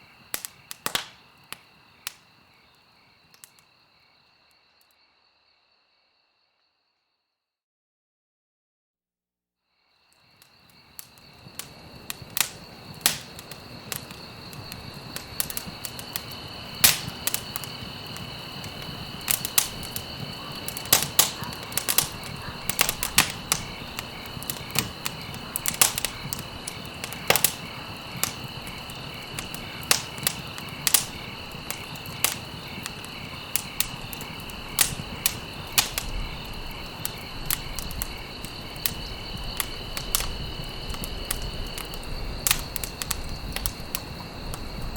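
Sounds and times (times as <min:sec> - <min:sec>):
wood fire crackling: 0:00.0 - 0:03.8, 0:10.1 - 0:44.9.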